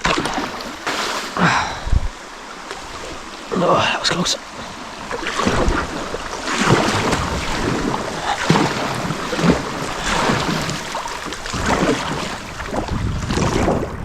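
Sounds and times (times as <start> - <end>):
river water rushing: 0.0 - 13.7
paddle splashing in water: 0.0 - 14.0.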